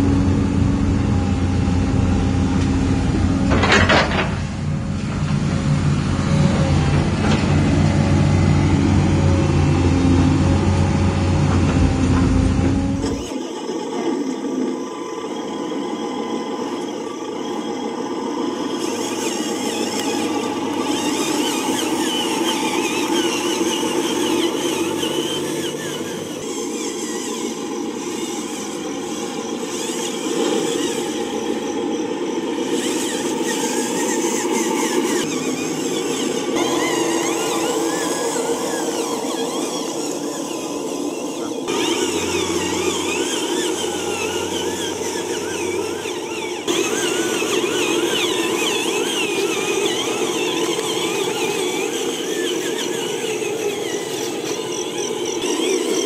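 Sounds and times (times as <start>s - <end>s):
toy truck motor driving: 5.2s - 56.0s.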